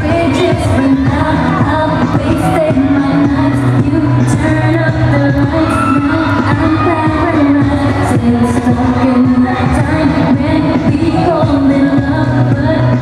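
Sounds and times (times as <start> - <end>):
backing music over pa system: 0.0 - 13.0
woman singing into microphone: 0.0 - 13.0.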